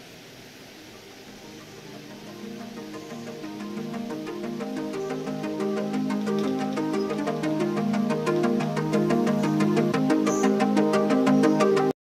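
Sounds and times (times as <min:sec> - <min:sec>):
steady background hiss: 0:00.0 - 0:11.9
faint music: 0:00.0 - 0:12.0.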